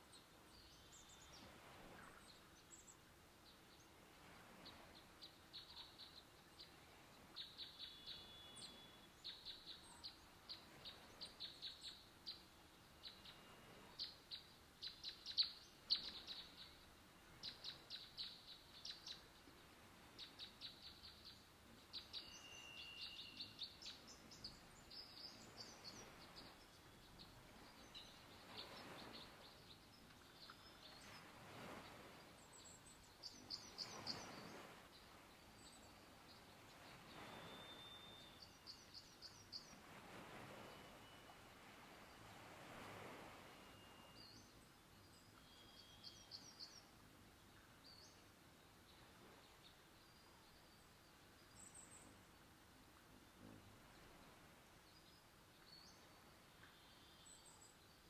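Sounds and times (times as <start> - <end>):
quiet forest background: 0.0 - 58.0.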